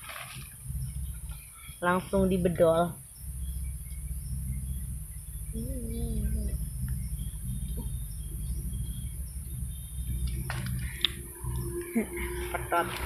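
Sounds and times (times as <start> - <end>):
insect drone: 0.0 - 13.0
low rumble: 0.0 - 13.0
wavering low hum: 0.0 - 13.0
faint bird chirps: 0.6 - 12.9.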